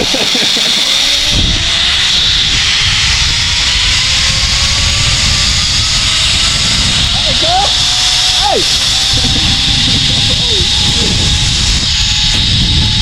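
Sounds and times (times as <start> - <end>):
zipline pulleys whining on cable: 0.0 - 13.0
wind rumble on microphone: 1.0 - 13.0.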